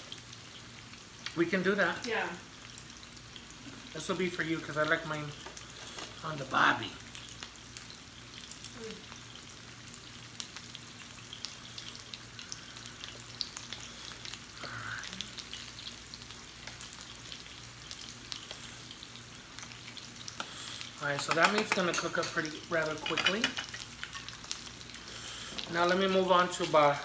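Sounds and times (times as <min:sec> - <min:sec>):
meat sizzling on a grill: 0:00.0 - 0:27.0.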